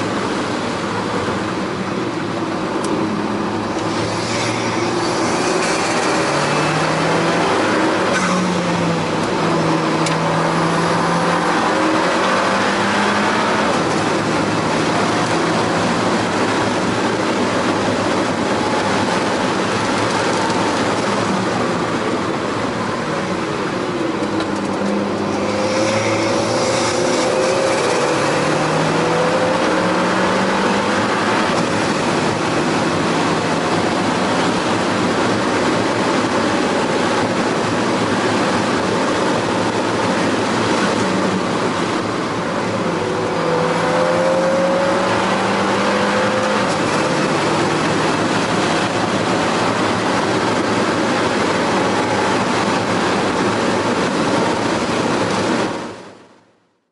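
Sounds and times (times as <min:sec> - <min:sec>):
car engine at full throttle: 0:00.0 - 0:56.9
road and wind noise: 0:00.0 - 0:56.9.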